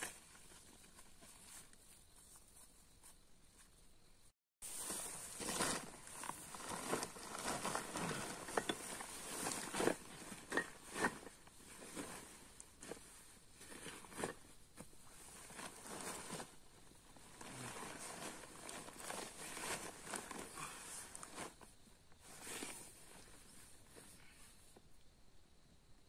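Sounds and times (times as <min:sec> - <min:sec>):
rustling and crackling: 0:00.0 - 0:24.9
faint high-pitched hiss: 0:00.0 - 0:26.0.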